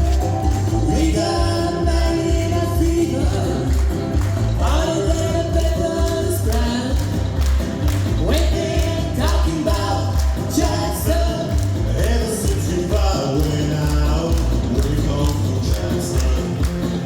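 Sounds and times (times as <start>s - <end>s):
live band music: 0.0s - 17.0s
person singing: 0.0s - 17.0s.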